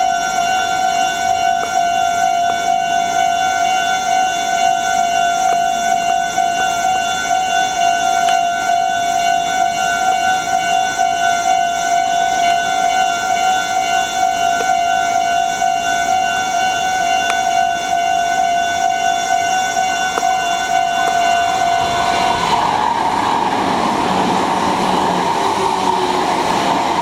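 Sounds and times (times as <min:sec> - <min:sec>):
level crossing warning bell: 0:00.0 - 0:27.0
train wheels on rails: 0:00.0 - 0:27.0.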